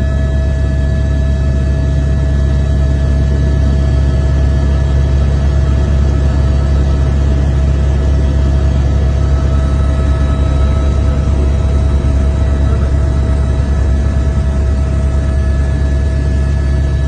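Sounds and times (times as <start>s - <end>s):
faint steady tones: 0.6s - 17.0s.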